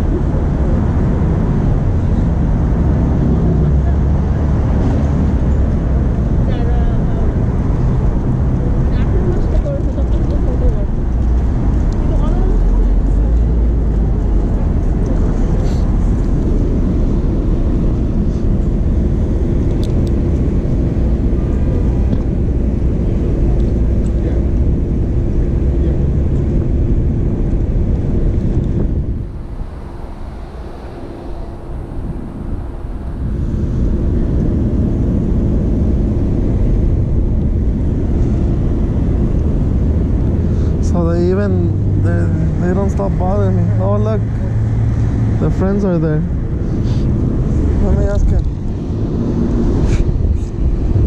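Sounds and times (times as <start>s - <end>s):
steady hum: 0.0s - 51.0s
street traffic rumble: 0.0s - 51.0s.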